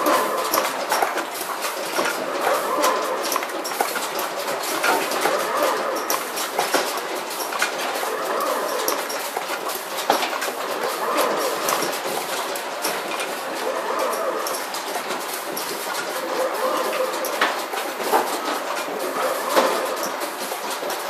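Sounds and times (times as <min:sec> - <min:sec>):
clicks and clacks: 0:00.0 - 0:21.0
machine clatter: 0:00.0 - 0:21.0.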